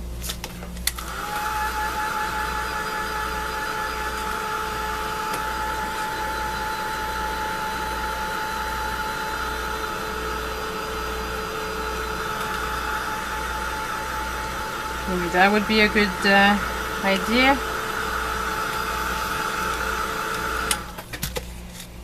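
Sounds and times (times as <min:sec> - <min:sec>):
hot-air tool whining: 0:00.0 - 0:21.1.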